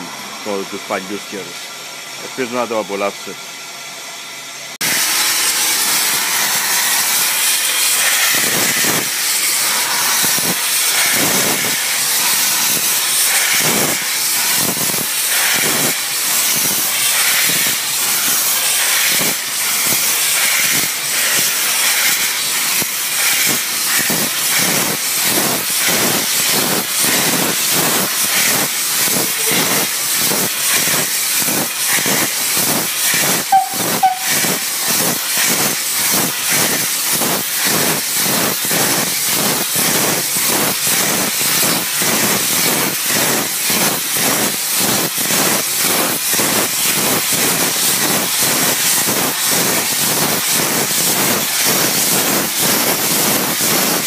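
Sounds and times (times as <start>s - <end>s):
steam locomotive exhaust chuffs: 0.0s - 54.0s
steam hissing: 4.8s - 54.0s.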